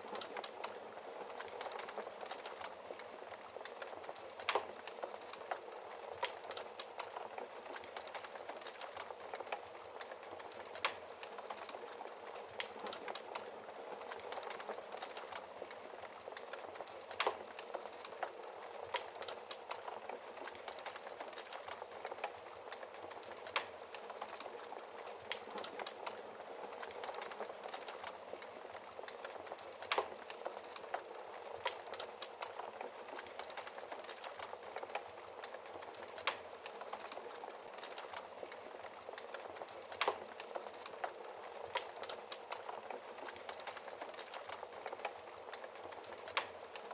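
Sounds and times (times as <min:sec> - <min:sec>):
fire pops: 0:00.0 - 0:46.9
wood fire hissing and crackling: 0:00.0 - 0:46.9.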